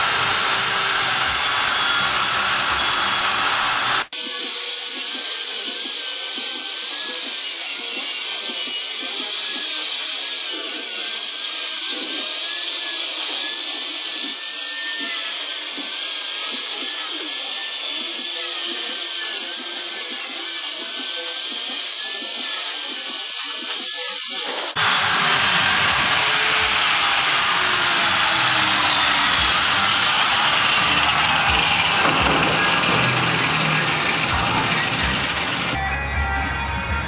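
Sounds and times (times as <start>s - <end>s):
power tool hissing and whining: 0.0s - 35.8s.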